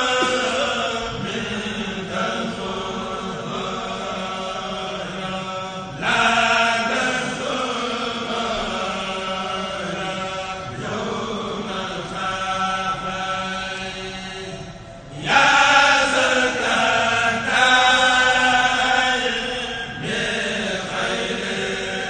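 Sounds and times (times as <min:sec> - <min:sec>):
men chanting over loudspeakers: 0:00.0 - 0:22.0.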